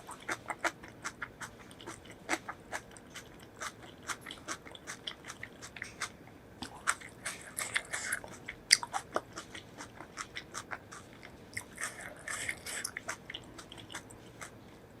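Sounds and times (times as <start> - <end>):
person chewing crunchy food: 0.0 - 14.9.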